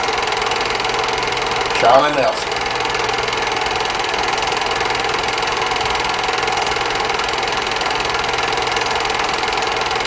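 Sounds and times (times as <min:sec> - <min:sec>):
motor hum: 0:00.0 - 0:10.0
small machine rattling: 0:00.0 - 0:10.0.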